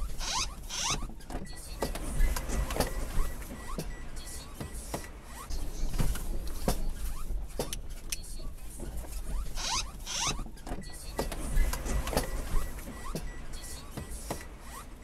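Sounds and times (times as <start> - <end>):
vehicle knocks and rattles: 0.0 - 15.0.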